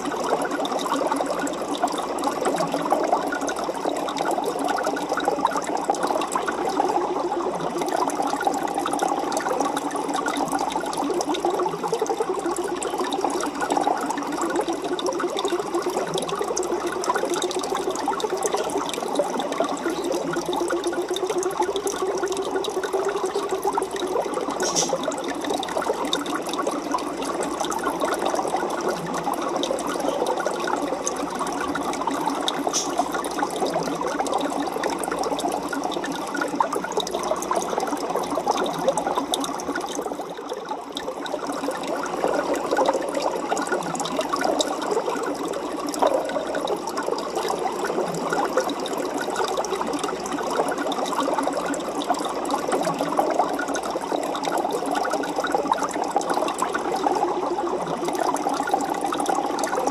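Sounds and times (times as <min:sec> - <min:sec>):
aquarium water trickling and bubbling: 0:00.0 - 0:59.9.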